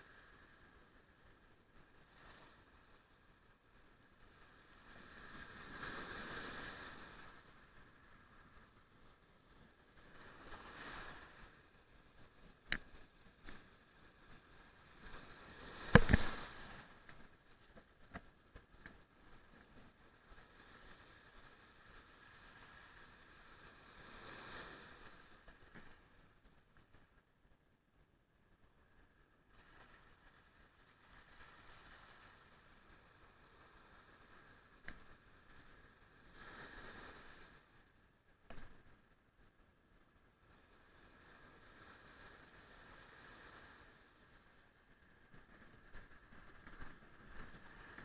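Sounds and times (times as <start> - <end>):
faint surf waves washing in: 0.0 - 48.0.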